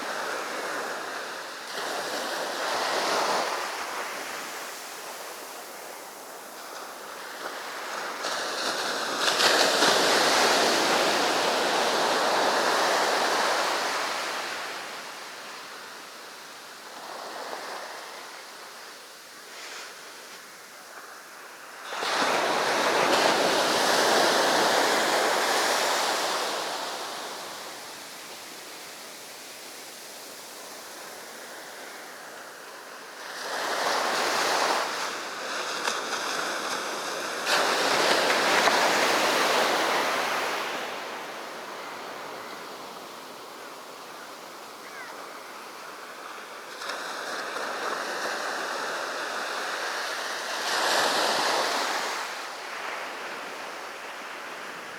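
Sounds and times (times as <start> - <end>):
hiss of receding water: 0.0 - 54.9
sea waves breaking on beach: 0.0 - 54.9.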